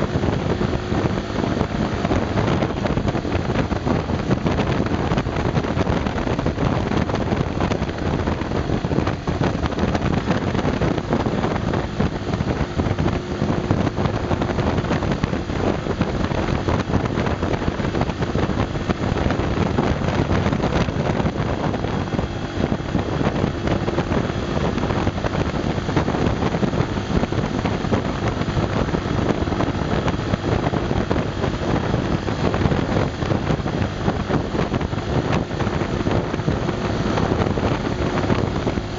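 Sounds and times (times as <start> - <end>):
motorcycle engine under load: 0.0 - 38.9
wind noise on microphone: 0.0 - 38.9.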